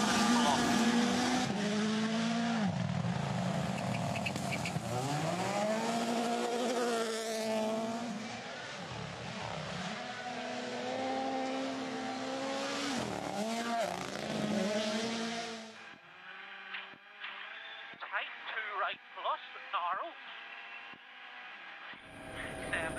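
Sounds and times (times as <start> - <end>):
rally car engine passing: 0.0 - 22.9.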